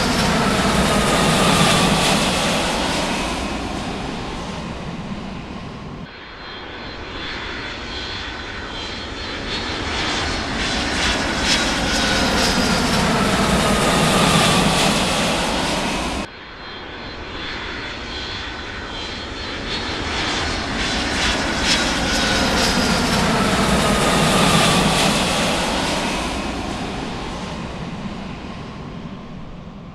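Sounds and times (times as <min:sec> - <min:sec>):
airplane passing overhead: 0:00.0 - 0:29.9.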